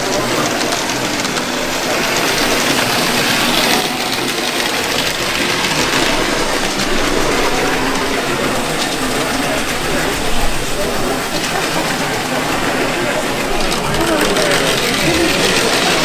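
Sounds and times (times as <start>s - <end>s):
crowd chatter: 0.0s - 16.0s
model trains running: 0.0s - 16.0s.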